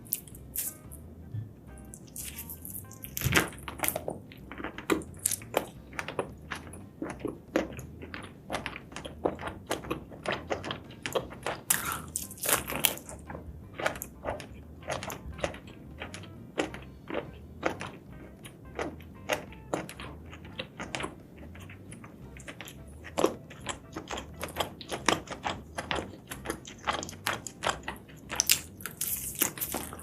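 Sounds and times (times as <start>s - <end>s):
wet chewing and crunching: 0.0s - 30.0s.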